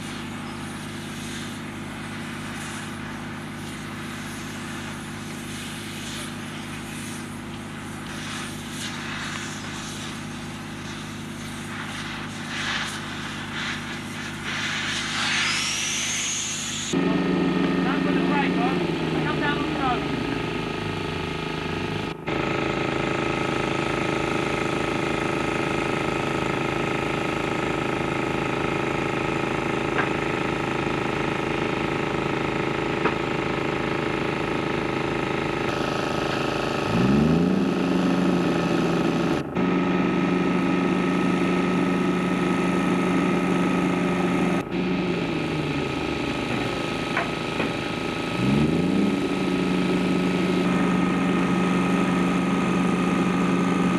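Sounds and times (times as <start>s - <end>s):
diesel engine running and revving: 0.0s - 53.9s.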